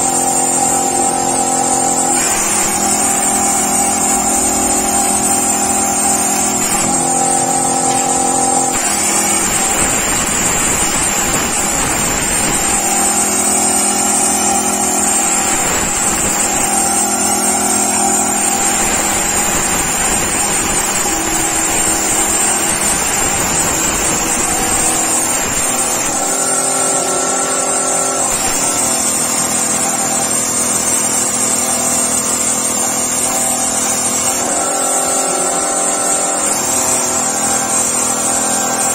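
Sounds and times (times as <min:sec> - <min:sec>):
machine drive motors whining: 0:00.0 - 0:38.9
plasma cutter hiss: 0:00.0 - 0:38.9.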